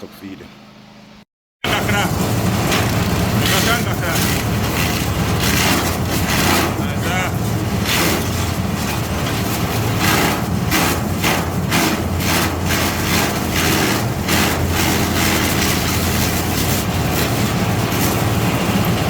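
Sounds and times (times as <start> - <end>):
blades chopping stalks: 2.7 - 19.0.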